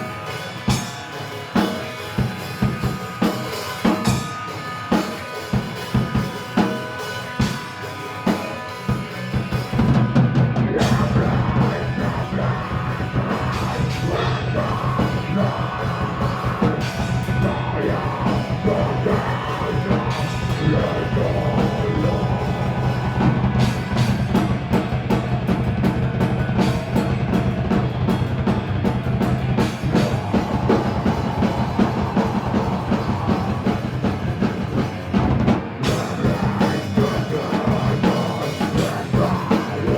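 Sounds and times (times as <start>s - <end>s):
drums: 0.0s - 39.9s
rock band playing: 0.0s - 39.9s.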